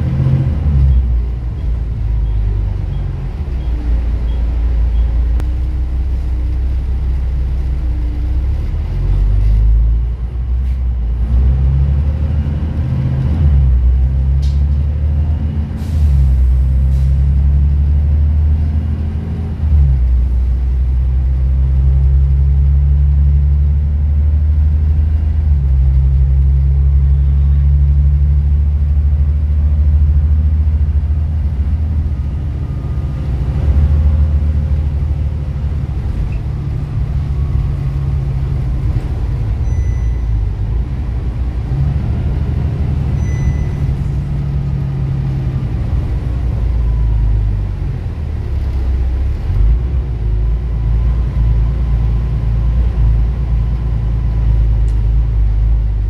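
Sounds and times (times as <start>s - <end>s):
bus diesel engine drone: 0.0s - 56.0s
road noise: 0.0s - 56.0s.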